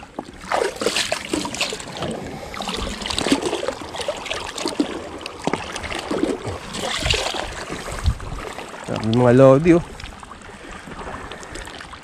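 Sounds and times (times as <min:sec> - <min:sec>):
sea water splashing and sloshing: 0:00.0 - 0:12.0.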